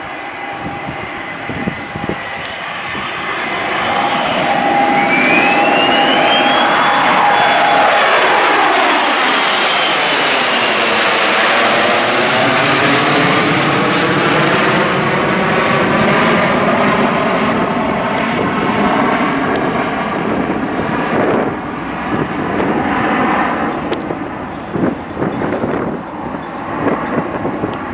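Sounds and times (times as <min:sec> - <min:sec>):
jet passing overhead: 0:00.0 - 0:27.9.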